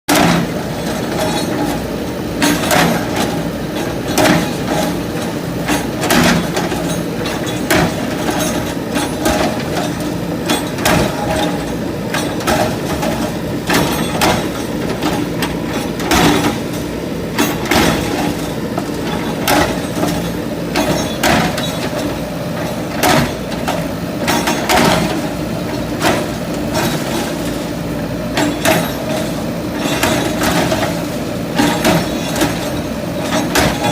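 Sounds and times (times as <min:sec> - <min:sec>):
diesel engine running: 0:00.1 - 0:33.9
knocks and clatters of demolition: 0:00.1 - 0:33.9.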